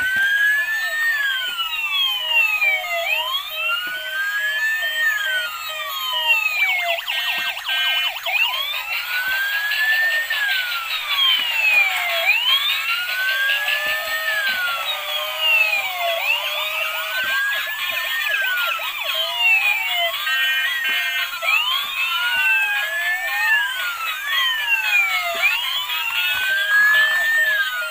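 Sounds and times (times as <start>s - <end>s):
toy electronic sirens wailing: 0.0s - 27.9s.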